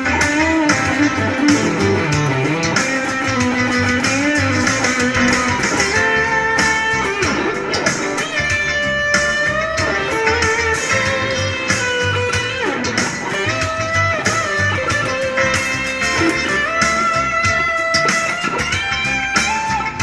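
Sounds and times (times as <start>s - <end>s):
fuzz electric guitar lead: 0.0s - 20.0s.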